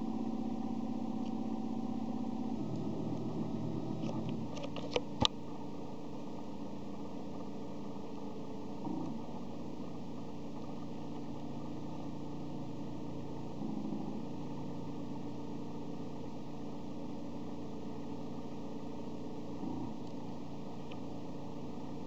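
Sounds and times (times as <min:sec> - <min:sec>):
stepper motors humming: 0:00.0 - 0:22.0.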